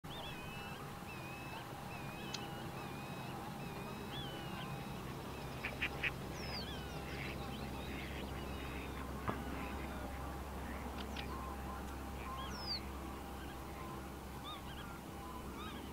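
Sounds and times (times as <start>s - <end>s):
wetland birds whistling: 0.1s - 15.9s.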